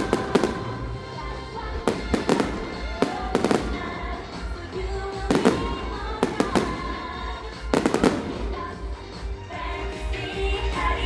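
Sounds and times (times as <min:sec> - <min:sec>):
fireworks bangs: 0:00.0 - 0:09.6
loud show soundtrack music: 0:00.0 - 0:11.0.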